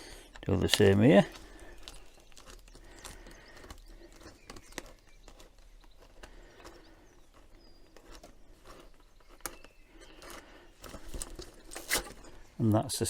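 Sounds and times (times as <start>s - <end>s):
hands working a flexible hose: 0.0s - 12.5s.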